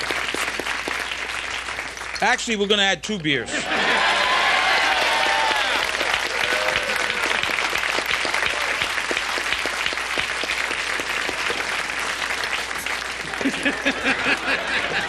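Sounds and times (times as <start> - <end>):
audience applauding: 0.0 - 2.4, 3.6 - 15.0.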